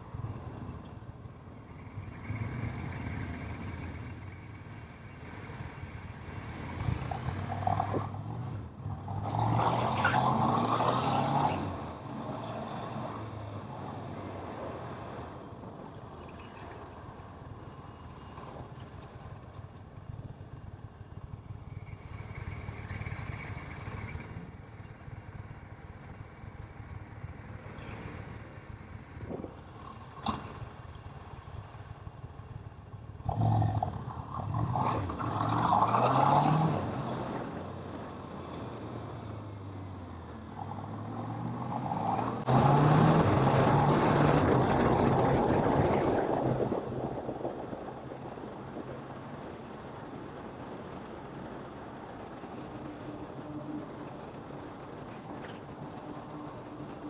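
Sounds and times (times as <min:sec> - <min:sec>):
road noise: 0:00.0 - 0:57.0.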